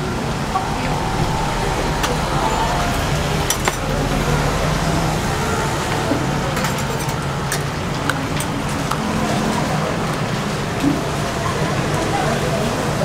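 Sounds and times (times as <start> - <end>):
street background hum: 0.0 - 13.0.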